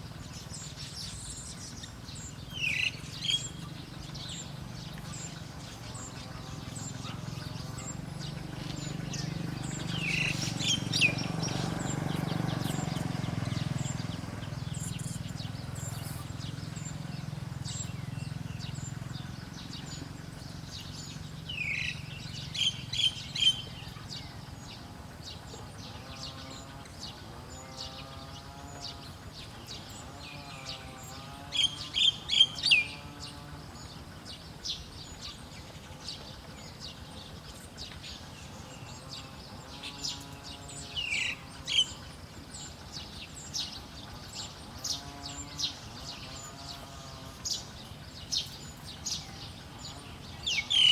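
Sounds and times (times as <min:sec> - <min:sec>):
low steady rumble: 0:00.0 - 0:50.9
small birds chirping: 0:00.0 - 0:50.9.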